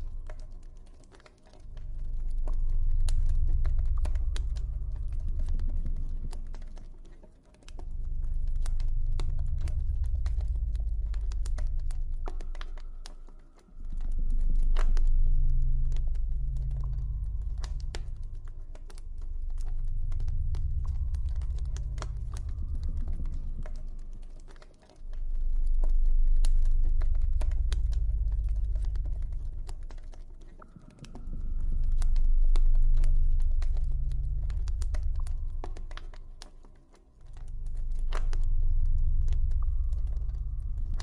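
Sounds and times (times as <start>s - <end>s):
low rumble: 0.0s - 41.0s
sharp pops and snaps: 0.0s - 41.0s.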